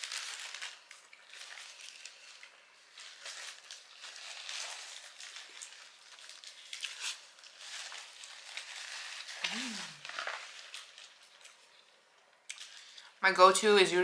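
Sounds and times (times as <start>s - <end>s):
chewing food: 1.0s - 13.1s.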